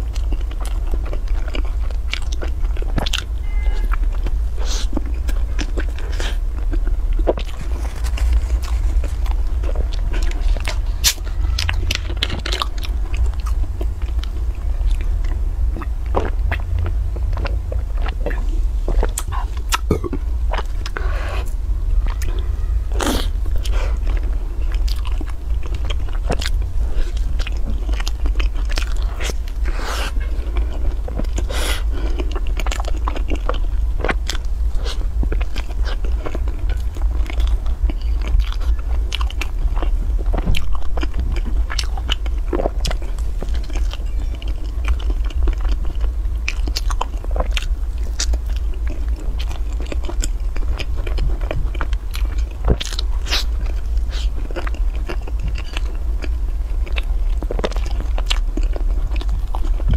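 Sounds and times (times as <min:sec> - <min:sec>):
crunchy food chewing: 0:00.0 - 0:59.9
steady low hum: 0:00.0 - 0:59.9.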